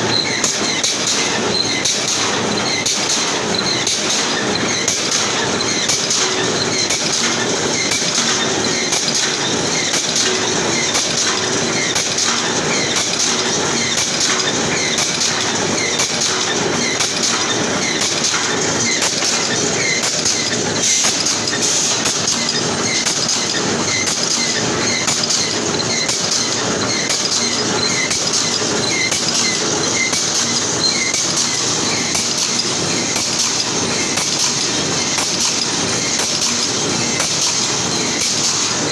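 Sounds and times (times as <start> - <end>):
welding machine clattering: 0.0 - 38.9.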